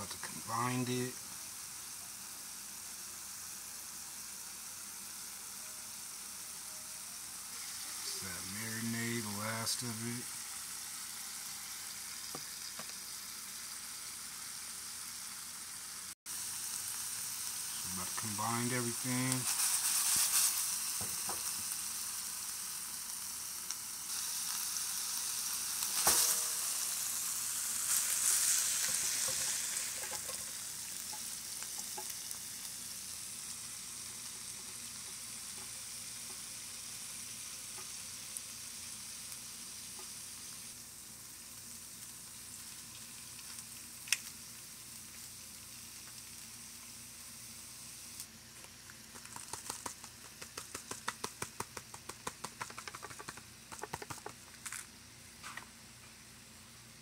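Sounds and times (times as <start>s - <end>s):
meat and shrimp sizzling in a pan: 0.0s - 57.0s.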